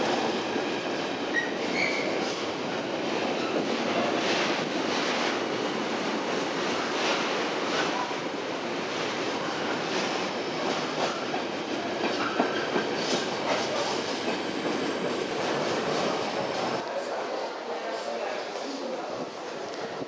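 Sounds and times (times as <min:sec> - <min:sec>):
freight train rolling rumble: 0:00.0 - 0:16.8.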